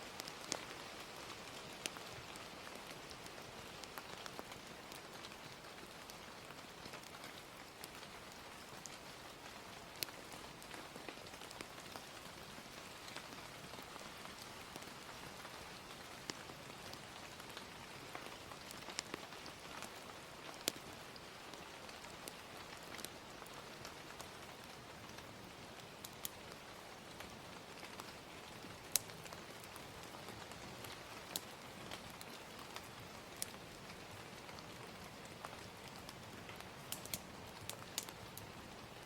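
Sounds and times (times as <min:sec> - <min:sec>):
gentle rain hissing: 0:00.0 - 0:39.0
wood fire popping and crackling: 0:00.1 - 0:39.0.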